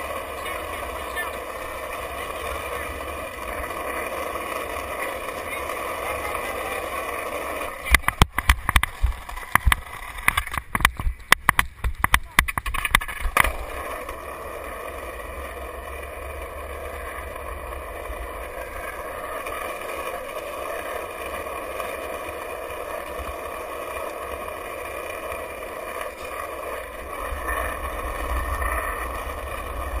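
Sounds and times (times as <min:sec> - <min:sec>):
skateboard wheels rolling on asphalt: 0:00.0 - 0:30.0.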